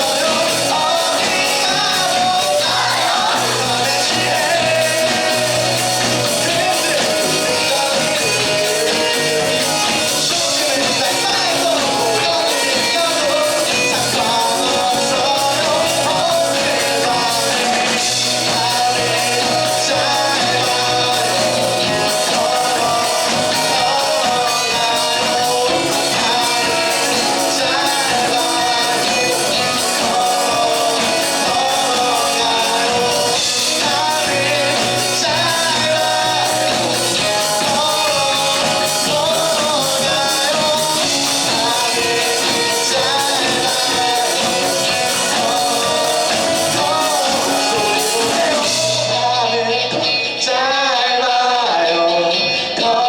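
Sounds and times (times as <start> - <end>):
lead singer singing: 0.0 - 53.0
live rock band playing: 0.0 - 53.0.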